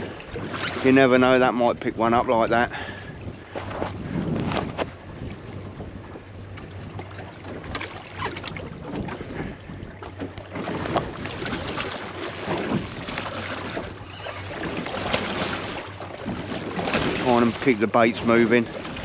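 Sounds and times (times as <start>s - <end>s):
water slapping boat hull: 0.0s - 19.0s
wind buffeting microphone: 0.0s - 19.0s.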